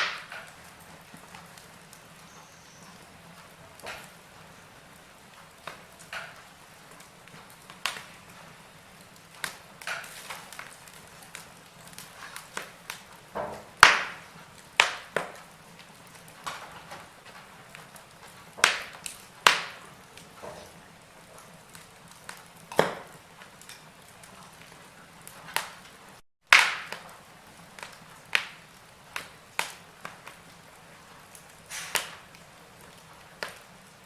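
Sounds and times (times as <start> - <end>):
logs crackling in fireplace: 0.0 - 34.0.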